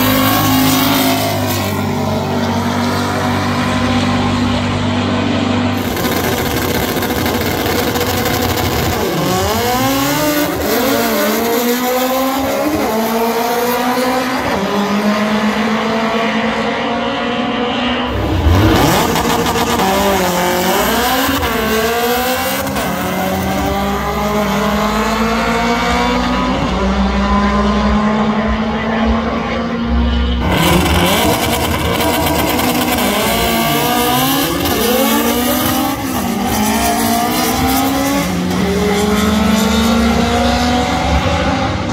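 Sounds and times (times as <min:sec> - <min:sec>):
drag racing engines revving: 0:00.0 - 0:41.9.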